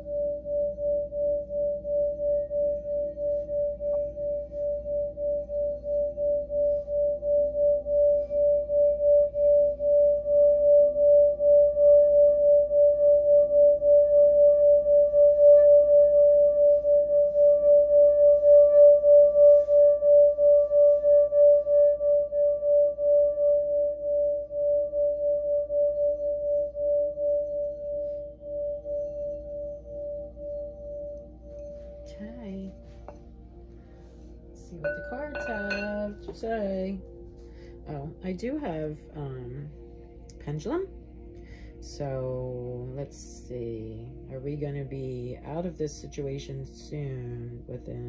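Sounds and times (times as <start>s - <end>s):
singing bowl tone: 0.0s - 48.0s.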